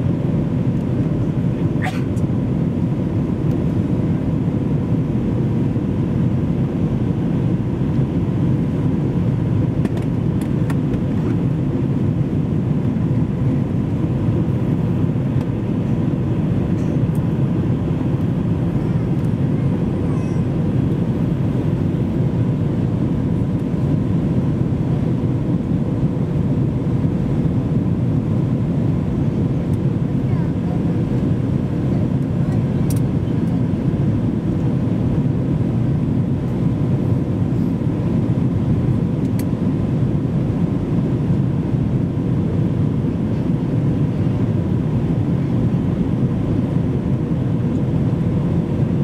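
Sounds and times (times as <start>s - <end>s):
aircraft cabin engine roar: 0.0s - 49.0s.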